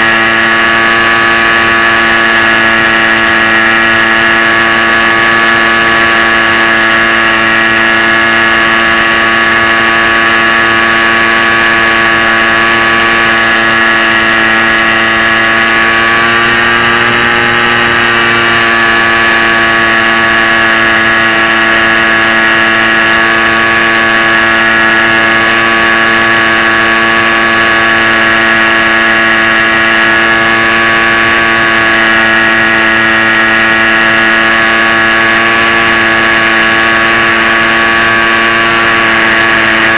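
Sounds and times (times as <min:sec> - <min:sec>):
small electric motor and propeller: 0:00.0 - 0:39.9.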